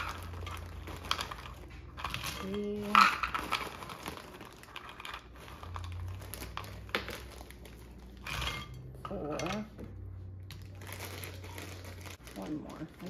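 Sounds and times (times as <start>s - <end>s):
plastic bag crinkling: 0.0s - 8.4s, 10.5s - 13.0s.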